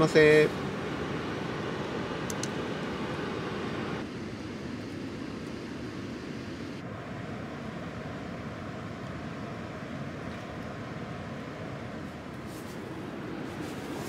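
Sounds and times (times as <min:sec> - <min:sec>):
strong wind against tent: 0:00.0 - 0:14.0.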